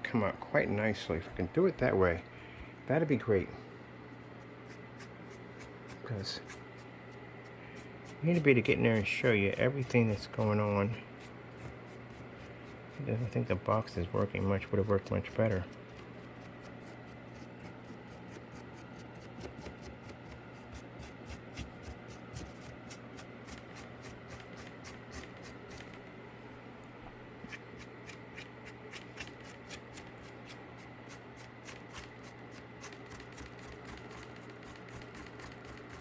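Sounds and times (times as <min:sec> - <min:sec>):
steady low hum: 0:00.0 - 0:36.0
paintbrush scratching on cardboard: 0:04.1 - 0:26.1, 0:27.4 - 0:36.0.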